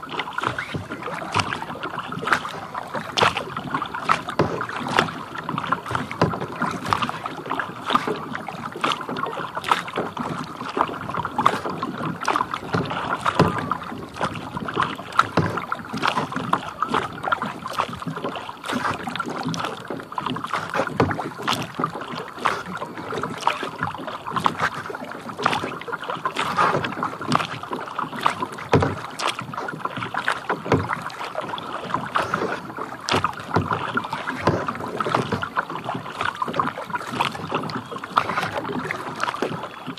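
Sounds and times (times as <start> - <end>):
small waves lapping against kayak: 0.0 - 39.9.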